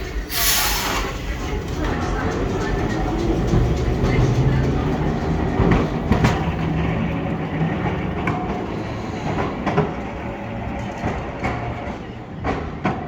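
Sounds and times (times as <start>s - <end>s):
electric tram rumble and hum: 0.0s - 13.0s
tram wheel clicks: 0.9s - 13.0s.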